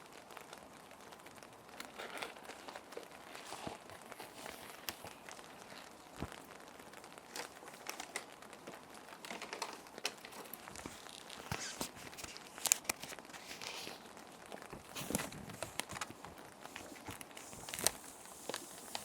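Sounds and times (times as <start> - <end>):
plastic sheet protectors crinkling: 0.0 - 19.0
soft steady rain: 0.0 - 19.0.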